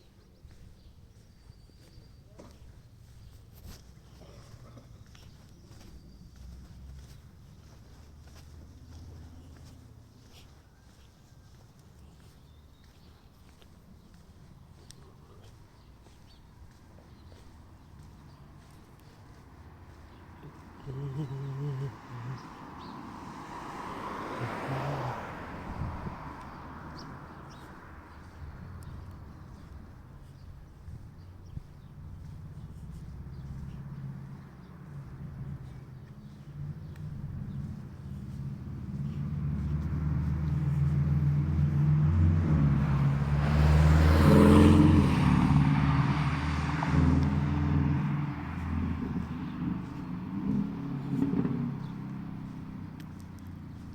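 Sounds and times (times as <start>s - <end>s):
distant vehicle passing: 1.8s - 53.9s.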